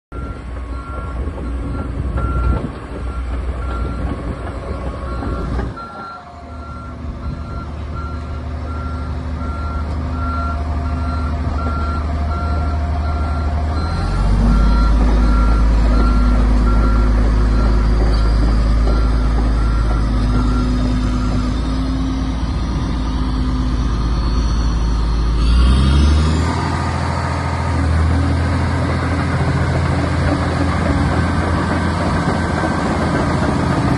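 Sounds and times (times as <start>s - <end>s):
bulldozer diesel engine drone: 0.1s - 33.9s.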